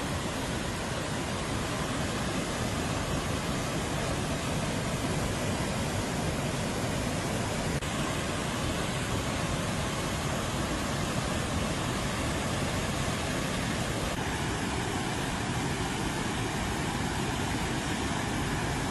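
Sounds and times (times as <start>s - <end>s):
floodwater rushing into spillway shaft: 0.0s - 18.9s.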